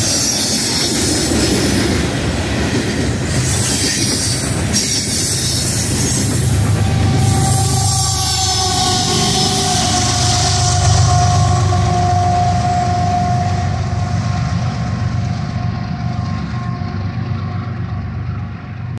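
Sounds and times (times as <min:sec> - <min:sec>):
diesel locomotive rumbling past: 0:00.0 - 0:19.0.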